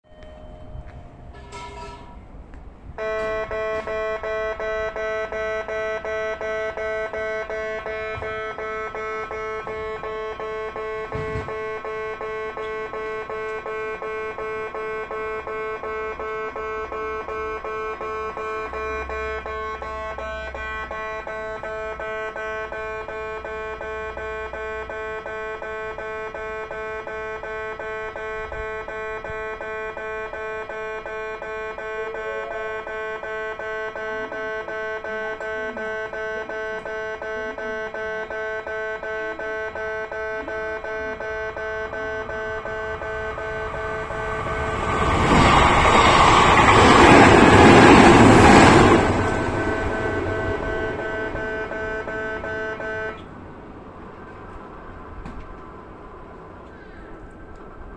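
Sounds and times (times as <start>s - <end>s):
level crossing warning bell: 0.0s - 54.9s.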